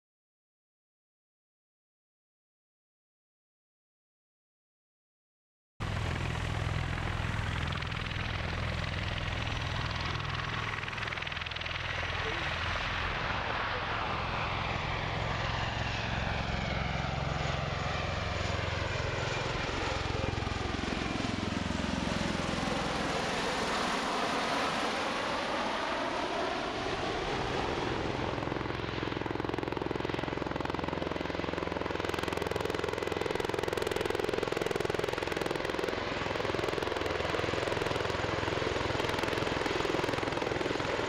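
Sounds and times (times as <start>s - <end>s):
tiltrotor aircraft pulsing drone: 5.8s - 41.0s.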